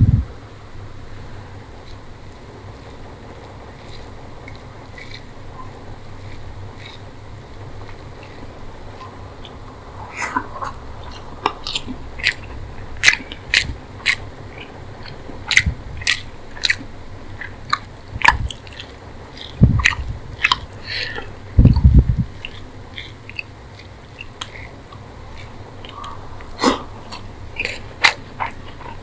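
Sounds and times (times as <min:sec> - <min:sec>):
wet chewing with lip smacks: 0:02.6 - 0:07.2, 0:07.8 - 0:29.0.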